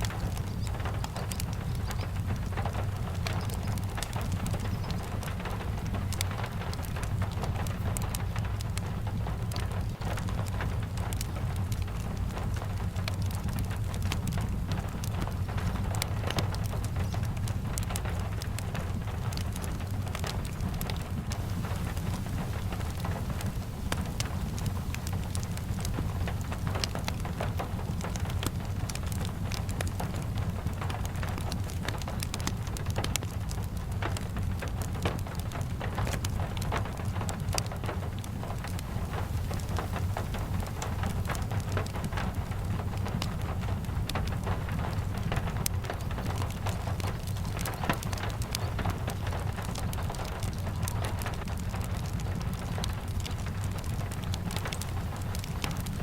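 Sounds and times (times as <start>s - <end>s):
sharp ticks and pops: 0.0s - 56.0s
steady rain: 0.0s - 56.0s
wood fire crackling: 0.0s - 56.0s.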